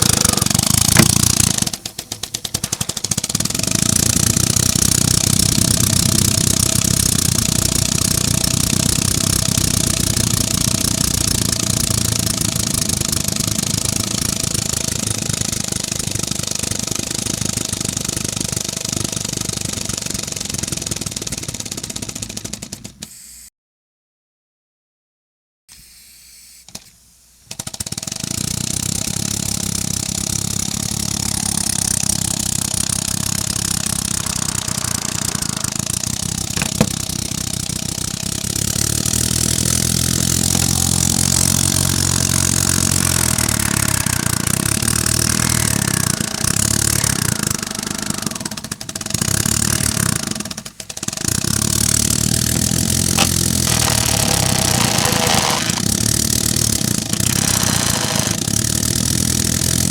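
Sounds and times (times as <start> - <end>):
air exhaust hissing: 0.0 - 17.6, 25.9 - 59.9.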